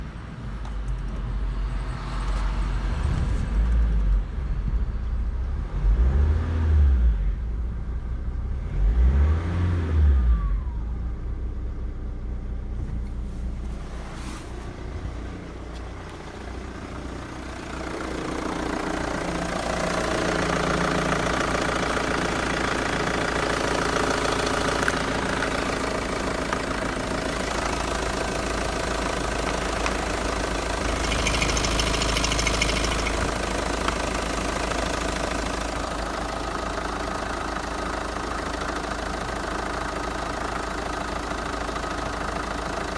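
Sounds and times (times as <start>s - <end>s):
diesel engine revving: 1.2s - 11.4s, 13.2s - 42.9s.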